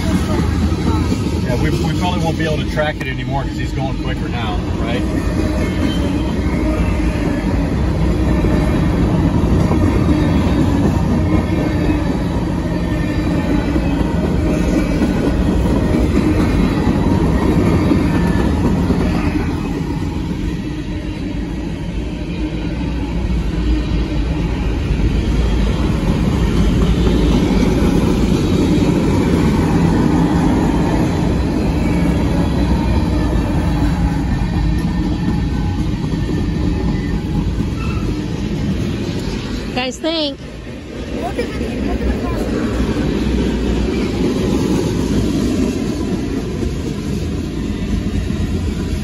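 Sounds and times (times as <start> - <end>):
freight train rolling past: 0.0 - 49.0.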